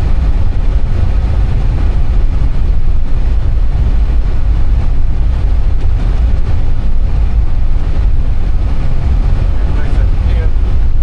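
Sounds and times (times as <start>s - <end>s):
cockpit low rumble: 0.0s - 11.0s.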